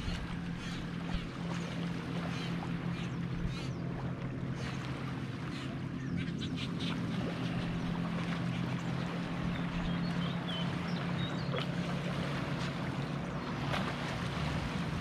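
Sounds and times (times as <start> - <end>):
birds calling: 0.0 - 15.0
steady low drone: 0.0 - 15.0.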